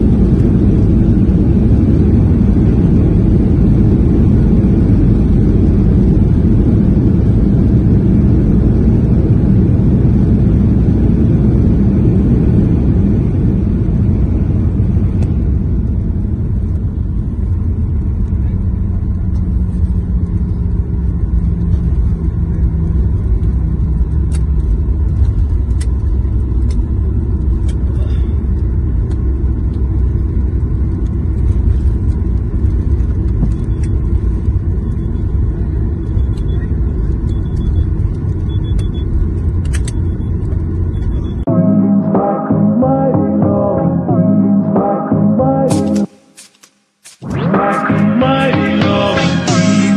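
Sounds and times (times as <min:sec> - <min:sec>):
airliner landing rumble: 0:00.0 - 0:46.3.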